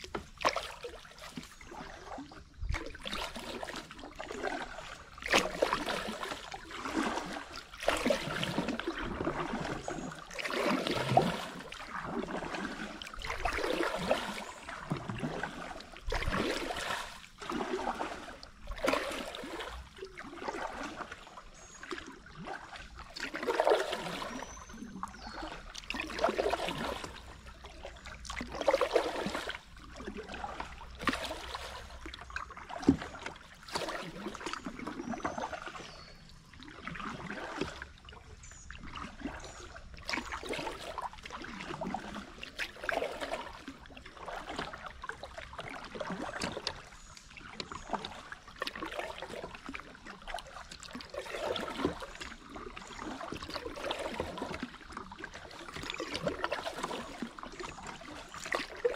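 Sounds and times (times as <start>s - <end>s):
paddle strokes swishing water: 0.0s - 58.9s.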